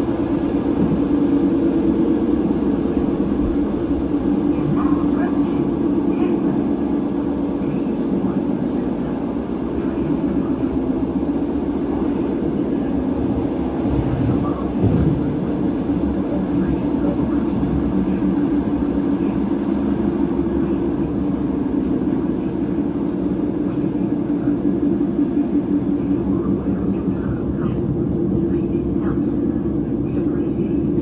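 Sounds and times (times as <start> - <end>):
train engine drone: 0.0 - 31.0
wheel and rail rumbling: 0.0 - 31.0.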